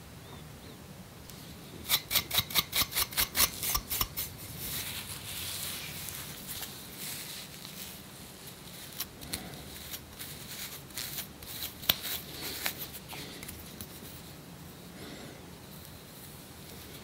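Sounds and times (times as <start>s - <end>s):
scratching scalp: 1.3s - 14.8s, 15.6s - 17.0s
faint hiss: 2.8s - 17.0s.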